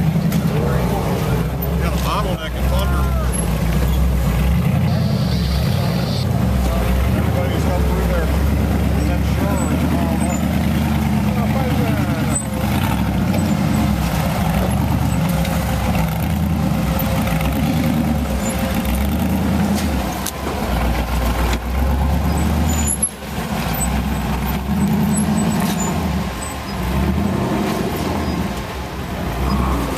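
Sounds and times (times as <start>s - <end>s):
race car engine revving: 0.0s - 29.9s.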